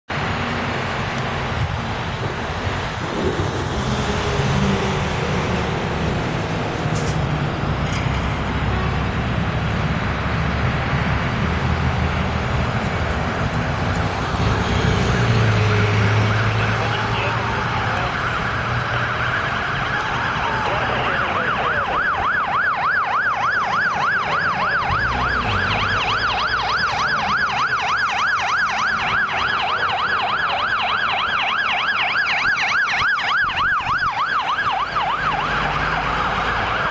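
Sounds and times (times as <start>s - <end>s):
heavy diesel engine passing: 0.1s - 36.9s
street traffic: 0.1s - 36.9s
fire engine siren yelping: 0.2s - 36.9s
distant siren wailing: 1.4s - 36.9s.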